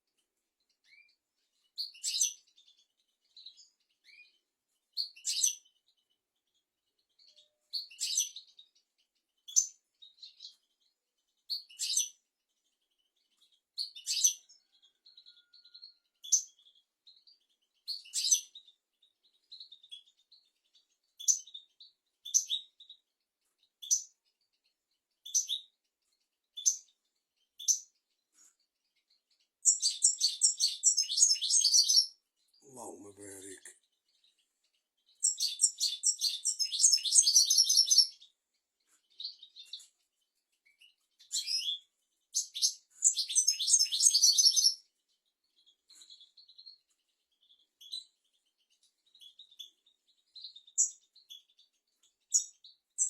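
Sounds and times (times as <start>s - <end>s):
bird chirping and twittering: 0.0s - 53.0s.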